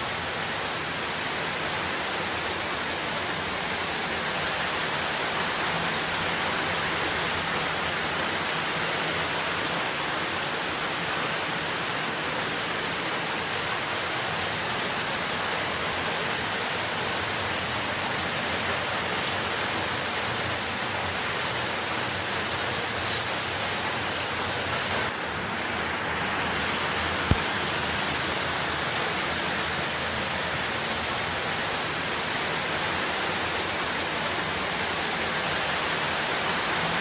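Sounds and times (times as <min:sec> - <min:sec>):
steady rainfall: 0:00.0 - 0:37.0.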